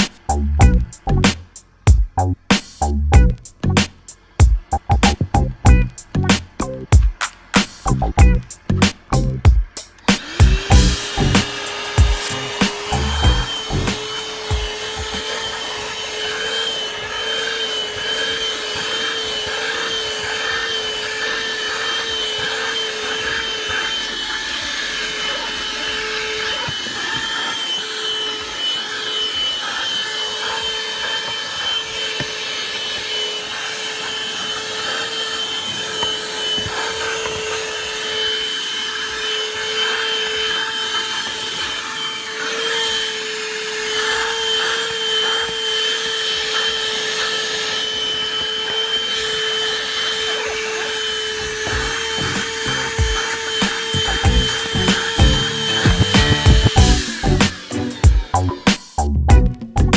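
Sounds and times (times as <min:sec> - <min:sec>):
handheld vacuum cleaner whining: 0:00.0 - 0:02.3, 0:03.2 - 0:59.0.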